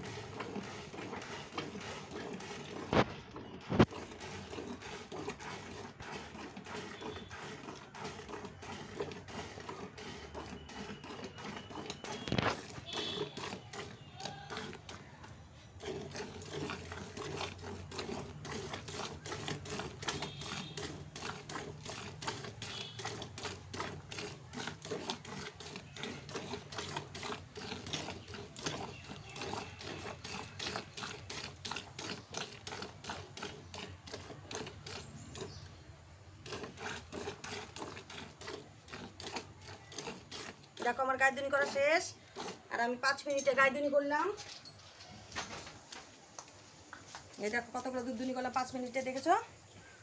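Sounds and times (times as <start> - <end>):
milk squirting into bucket: 0.0 - 44.5.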